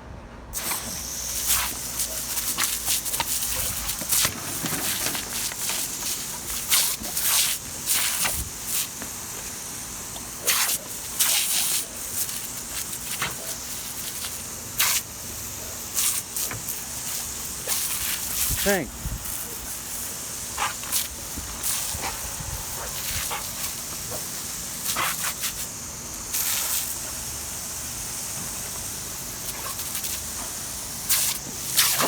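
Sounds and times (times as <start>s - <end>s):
garden hose spraying water: 0.5s - 32.0s.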